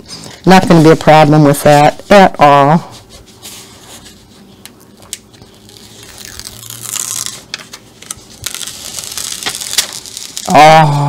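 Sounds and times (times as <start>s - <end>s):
plastic sheets rustling and crinkling: 0.5s - 10.7s.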